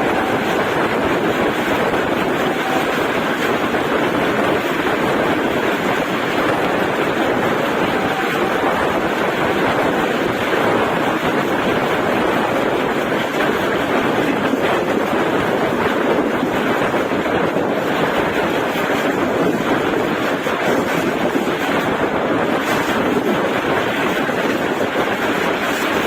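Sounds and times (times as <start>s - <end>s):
train rushing on rails: 0.0s - 26.0s.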